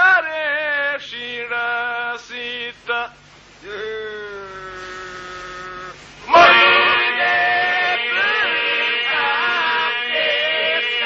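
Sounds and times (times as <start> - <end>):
male voices singing unaccompanied: 0.0 - 11.0.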